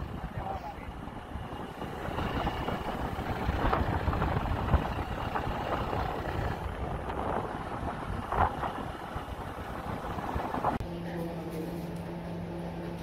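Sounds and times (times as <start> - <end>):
wind rumbling on microphone: 0.0 - 10.8
vehicle engine and road noise: 0.0 - 13.0.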